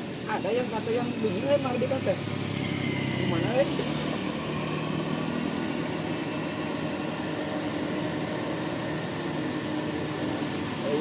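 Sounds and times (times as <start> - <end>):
road traffic noise: 0.0 - 11.0
vehicle engine drone: 0.0 - 11.0.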